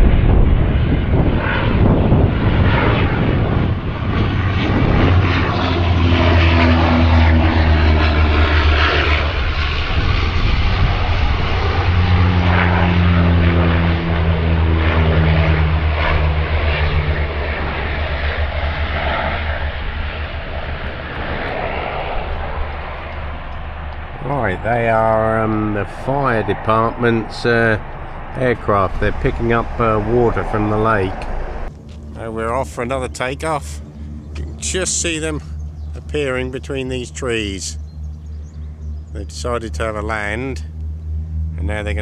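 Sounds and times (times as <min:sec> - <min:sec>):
propeller engines droning: 0:00.0 - 0:42.0.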